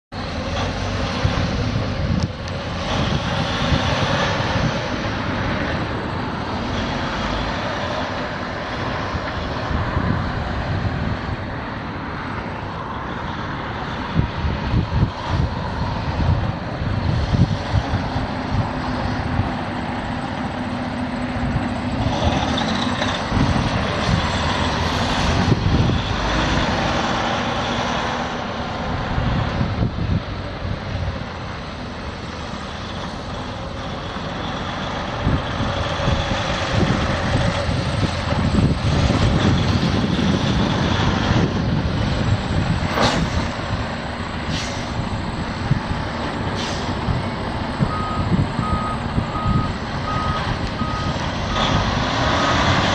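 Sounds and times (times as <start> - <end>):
diesel truck engine running: 0.1 - 52.9.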